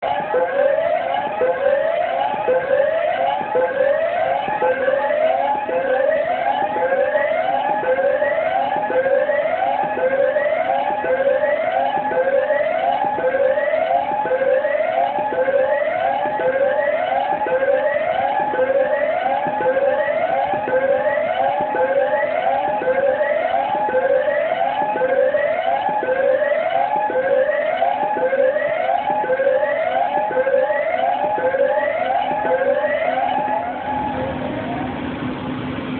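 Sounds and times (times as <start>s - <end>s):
fire alarm sweep tone: 0.0s - 35.1s.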